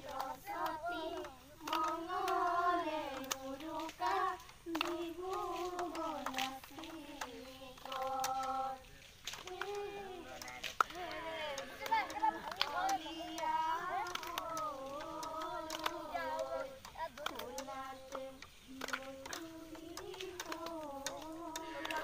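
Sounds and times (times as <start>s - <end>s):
woman singing: 0.0s - 8.8s, 9.4s - 22.0s
sharp claps: 0.0s - 22.0s.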